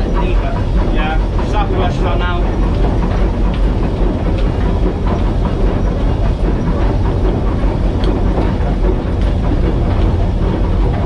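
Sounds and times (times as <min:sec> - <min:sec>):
steam locomotive rumbling: 0:00.0 - 0:11.0
wheels clicking on track: 0:00.0 - 0:11.0.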